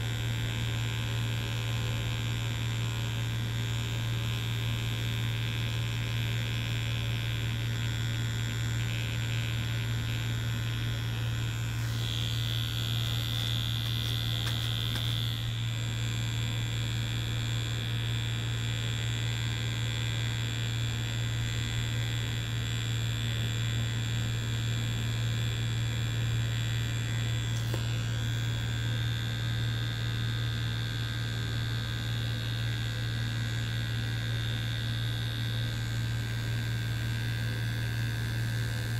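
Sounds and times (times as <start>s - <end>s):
tattoo machine buzzing: 0.0s - 38.9s.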